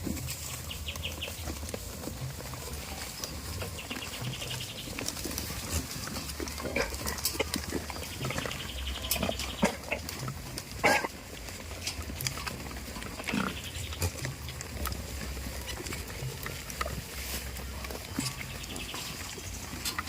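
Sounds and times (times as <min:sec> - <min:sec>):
goats grunting: 0:00.0 - 0:20.0.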